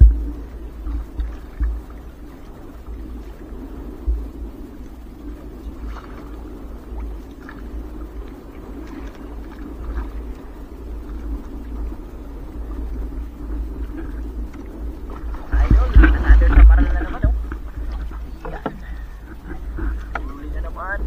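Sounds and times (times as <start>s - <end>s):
water rumbling around boat: 0.0s - 21.0s.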